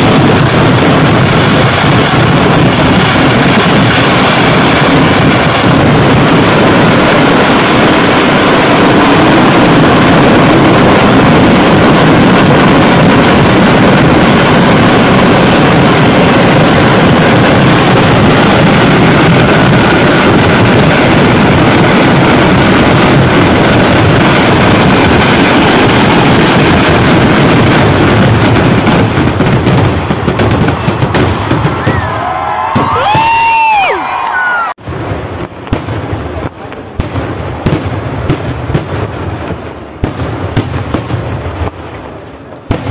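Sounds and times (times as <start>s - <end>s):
fireworks rapid explosions: 0.0s - 42.9s.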